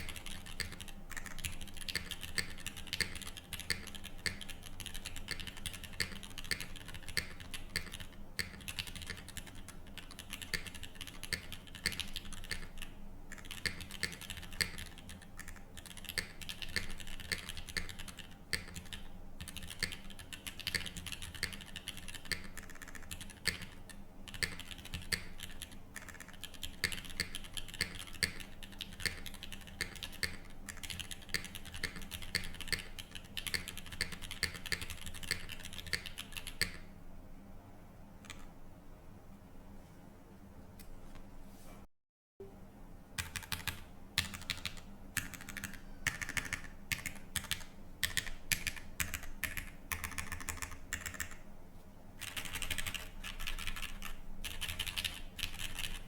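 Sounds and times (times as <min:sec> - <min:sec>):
mechanical keyboard typing: 0:00.0 - 0:36.8, 0:38.2 - 0:38.5, 0:43.2 - 0:51.4, 0:52.2 - 0:56.0.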